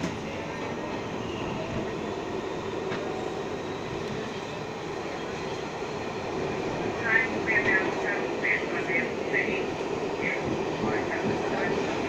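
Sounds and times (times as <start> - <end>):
subway car rumbling on rails: 0.0 - 12.0.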